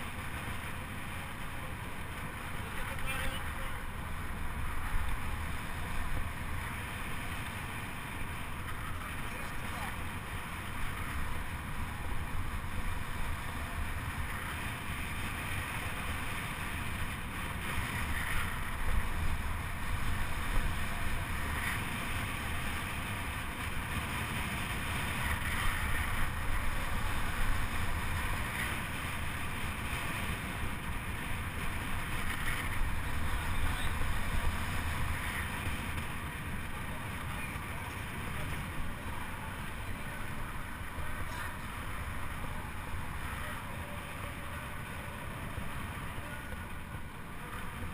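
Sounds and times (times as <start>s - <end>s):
bike wheels rumbling on track: 0.0s - 47.9s.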